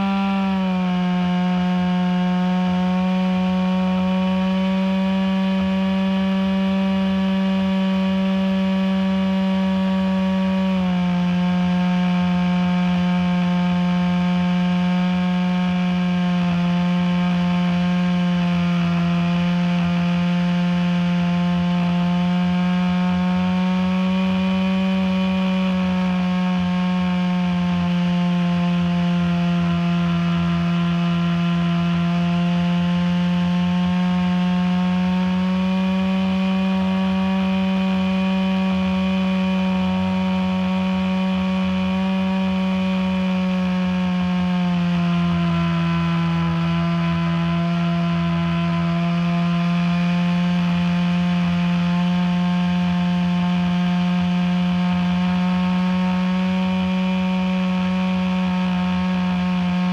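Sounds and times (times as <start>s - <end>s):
model airplane motor buzzing: 0.0s - 59.9s.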